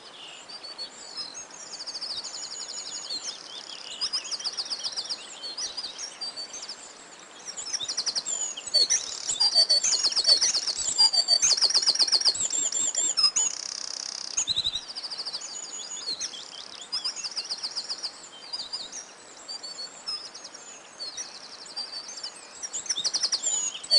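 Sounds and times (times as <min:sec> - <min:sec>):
songbirds chirping and trilling: 0:00.0 - 0:23.9.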